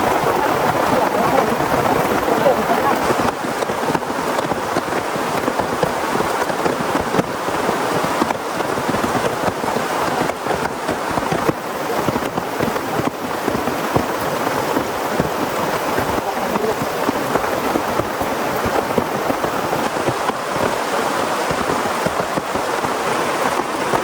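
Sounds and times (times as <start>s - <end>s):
heavy rain hissing: 0.0s - 4.4s, 8.6s - 24.0s
raindrops tapping nearby surface: 0.0s - 24.0s.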